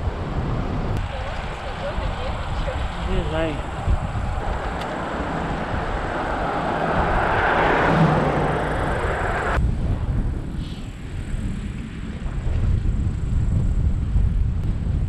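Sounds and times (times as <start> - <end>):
bicycle road noise: 0.0 - 15.0
wind rushing over microphone: 0.0 - 15.0.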